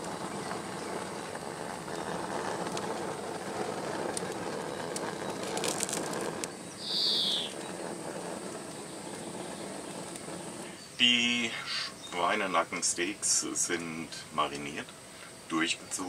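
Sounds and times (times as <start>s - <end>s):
gas flame rushing: 0.0s - 13.8s.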